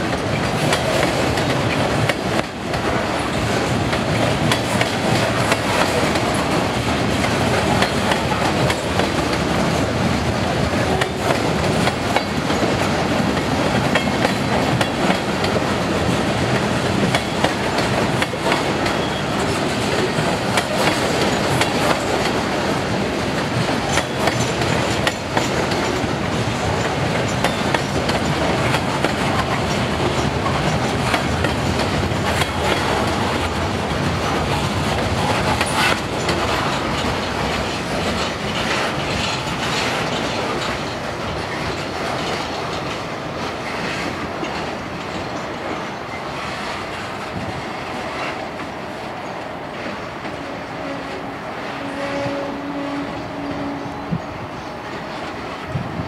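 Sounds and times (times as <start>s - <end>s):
wheels clattering over rail joints: 0.0s - 50.4s
freight train cars rolling past: 0.0s - 56.0s.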